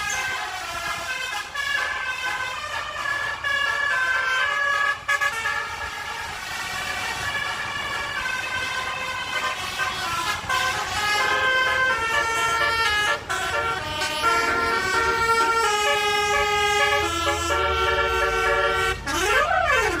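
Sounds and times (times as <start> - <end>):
multi-trumpet air horn tune: 0.0 - 20.0
siren-like wailing horn glide: 0.0 - 20.0.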